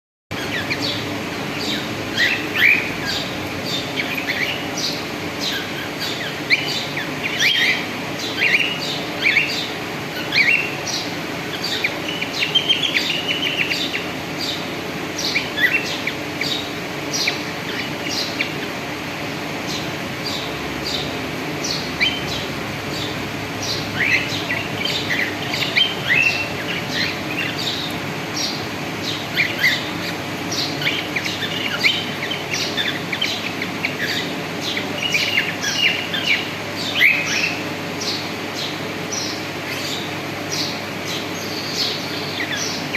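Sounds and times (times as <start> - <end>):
cockatiels chirping: 0.3 - 18.8, 19.6 - 42.9
low background hum: 0.3 - 42.9.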